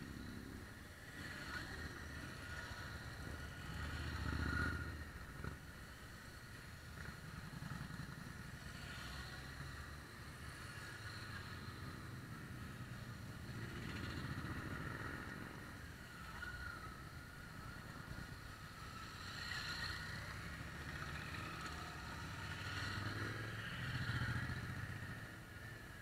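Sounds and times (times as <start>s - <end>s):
motorcycles riding past: 0.0s - 26.0s.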